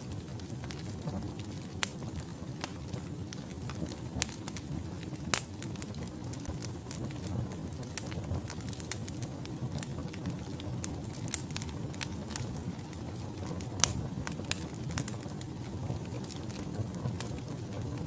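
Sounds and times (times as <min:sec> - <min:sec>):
burning logs crackling and popping: 0:00.0 - 0:18.0
fire flames rumbling: 0:00.0 - 0:18.0.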